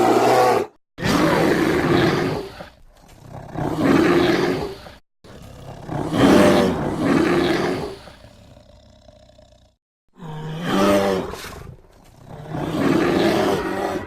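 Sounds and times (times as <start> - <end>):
dinosaur roars: 0.0 - 14.0.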